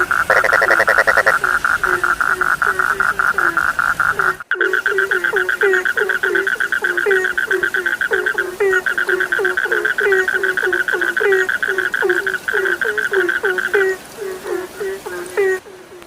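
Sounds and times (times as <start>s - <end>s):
frog trilling: 0.0s - 16.0s
frogs croaking: 0.0s - 16.0s.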